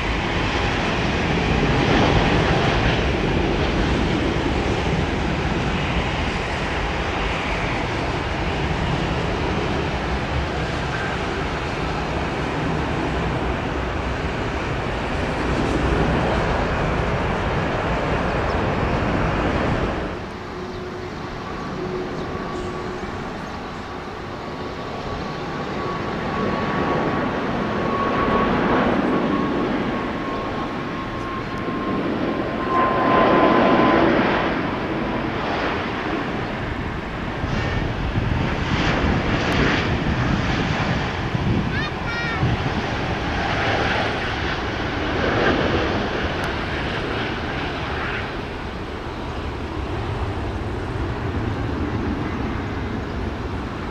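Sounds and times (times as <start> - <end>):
jet engines of passing airliner: 0.0 - 53.9.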